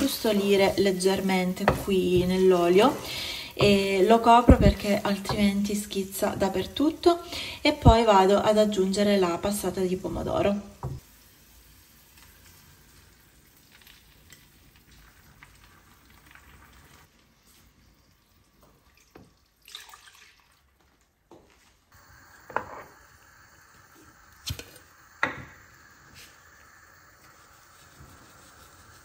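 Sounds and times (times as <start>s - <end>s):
fish frying in oil: 0.0s - 19.6s, 22.0s - 29.0s.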